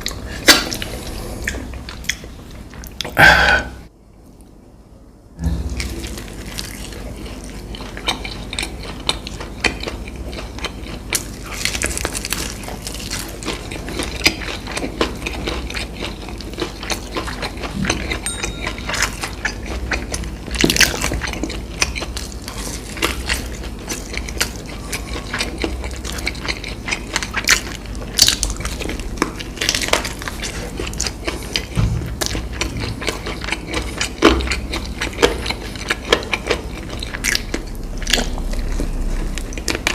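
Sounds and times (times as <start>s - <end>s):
crunchy food chewing: 5.4s - 39.9s.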